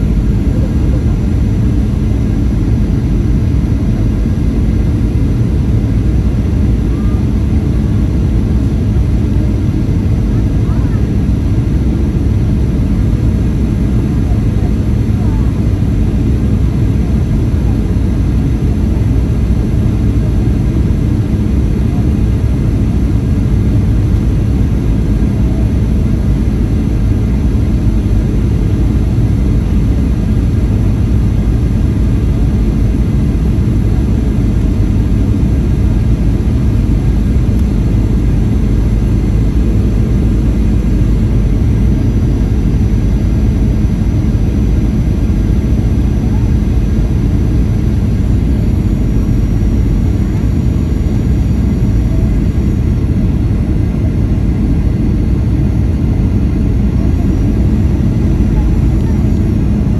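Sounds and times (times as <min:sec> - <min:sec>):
jet airliner cabin drone: 0:00.0 - 0:59.9.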